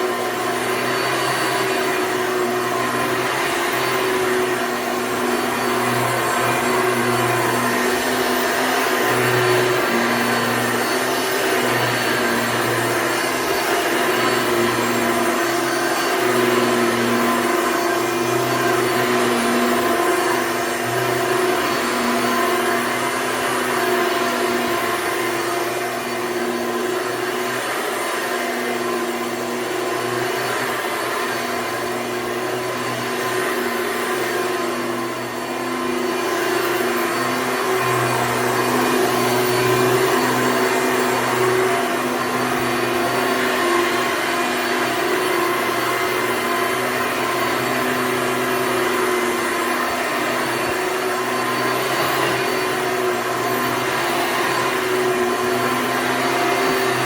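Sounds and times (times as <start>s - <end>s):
upright vacuum cleaner running: 0.0s - 57.0s.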